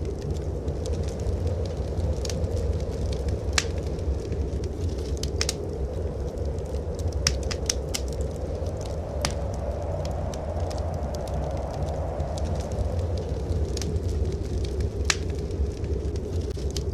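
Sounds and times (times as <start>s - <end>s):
low rumble of blizzard wind: 0.0s - 16.9s
wood fire crackling and popping: 0.0s - 16.9s.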